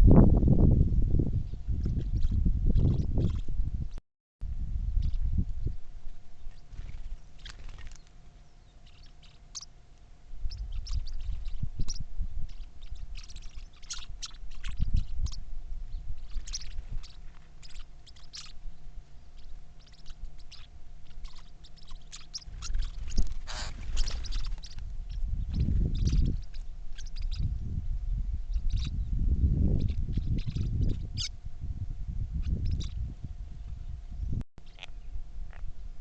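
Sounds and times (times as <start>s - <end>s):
wind rumble on microphone: 0.0s - 8.0s, 10.3s - 36.0s
birds chirping: 1.5s - 3.5s, 5.0s - 31.5s, 32.3s - 35.7s.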